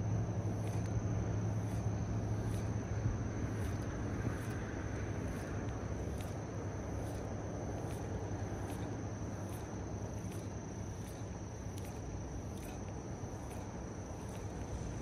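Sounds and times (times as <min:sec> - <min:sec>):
high-pitched insect drone: 0:00.0 - 0:15.0
faint ticks: 0:00.4 - 0:15.0.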